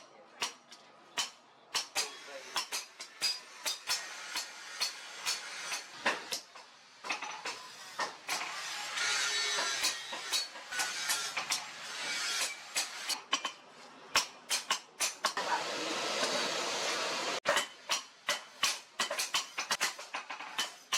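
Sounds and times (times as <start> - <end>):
hammer striking steel: 0.4 - 8.6, 9.3 - 15.6, 17.4 - 20.9.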